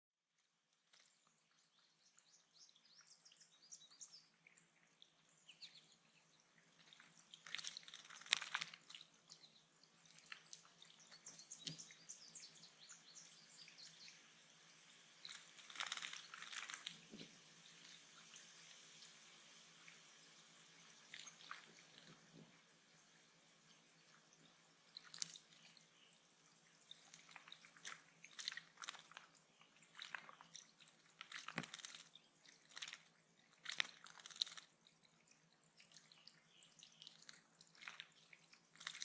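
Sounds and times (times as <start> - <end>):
water dripping: 0.4 - 39.0
small birds chirping: 0.7 - 39.0.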